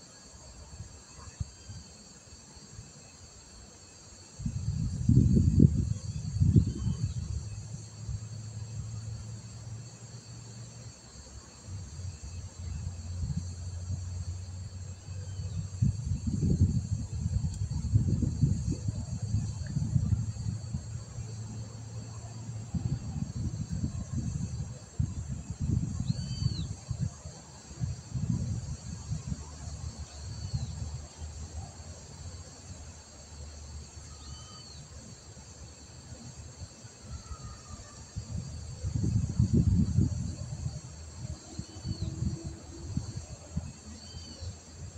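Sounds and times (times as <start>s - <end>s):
crickets chirring: 0.0s - 44.9s.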